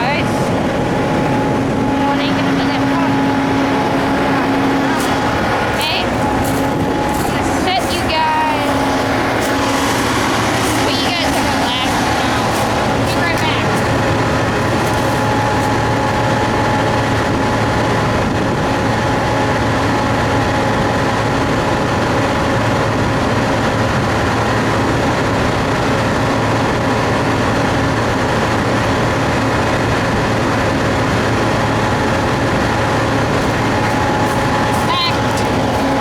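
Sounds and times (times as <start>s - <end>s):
combine harvester drone: 0.0s - 36.0s
constant machine whine: 0.0s - 36.0s.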